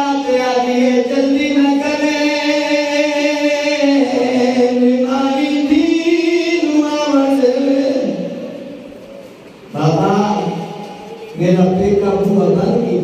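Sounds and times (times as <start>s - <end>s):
man chanting into a microphone: 0.0s - 8.8s, 9.7s - 13.0s.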